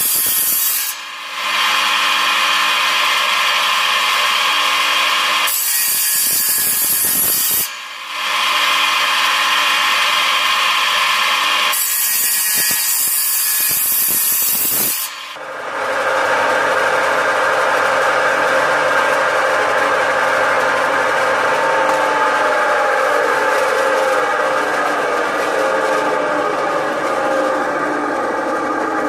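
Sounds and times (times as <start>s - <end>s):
table saw cutting wood: 0.0s - 29.0s.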